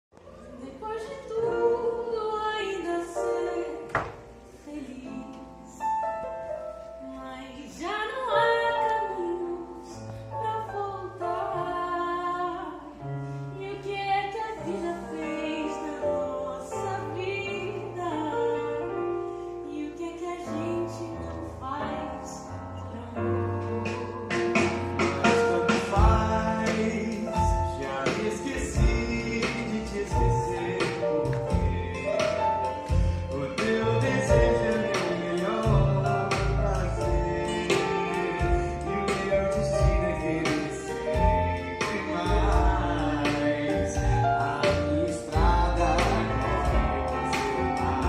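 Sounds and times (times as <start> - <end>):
instrumental accompaniment: 8.4 - 48.0.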